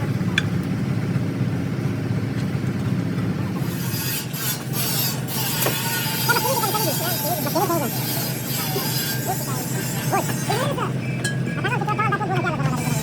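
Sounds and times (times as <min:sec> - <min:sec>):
low mechanical engine drone: 0:00.0 - 0:13.0.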